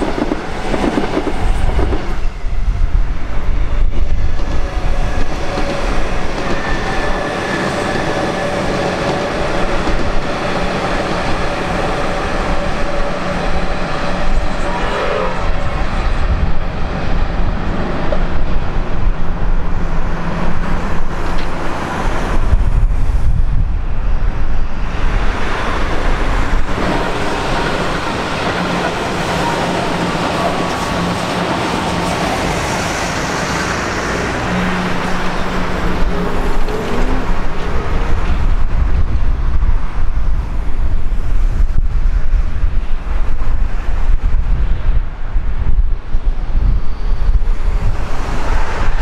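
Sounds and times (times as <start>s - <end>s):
train running past on tracks: 0.0s - 49.0s.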